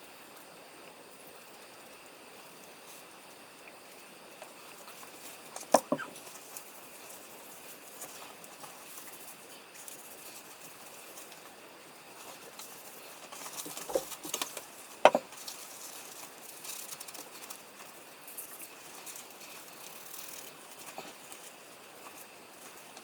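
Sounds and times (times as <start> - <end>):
faint hiss: 0.0 - 23.0.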